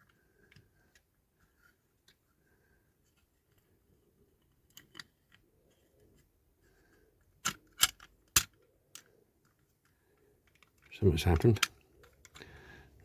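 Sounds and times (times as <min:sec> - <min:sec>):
model car parts clicking: 0:00.0 - 0:02.3, 0:03.1 - 0:06.4, 0:07.1 - 0:12.5.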